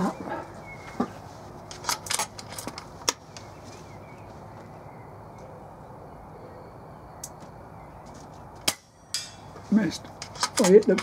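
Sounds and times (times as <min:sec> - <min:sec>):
outdoor background: 0:00.0 - 0:11.0.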